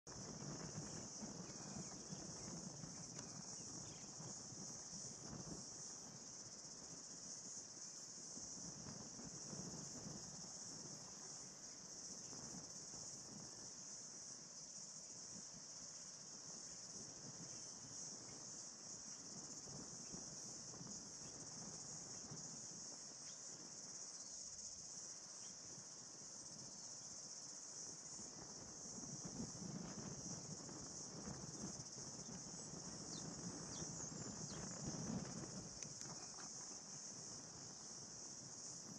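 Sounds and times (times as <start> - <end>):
high-pitched insect chorus: 0.1 - 38.9.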